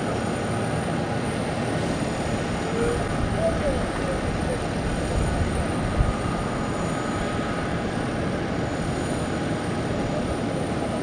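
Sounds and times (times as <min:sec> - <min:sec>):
jet airliner rumble with whine: 0:00.0 - 0:11.0.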